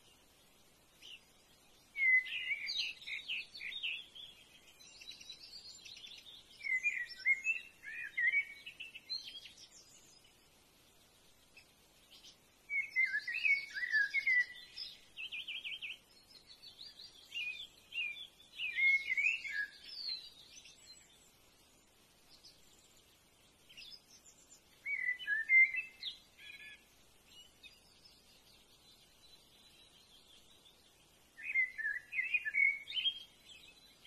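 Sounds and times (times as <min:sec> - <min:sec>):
birdsong with chirps and trills: 0:00.0 - 0:34.0.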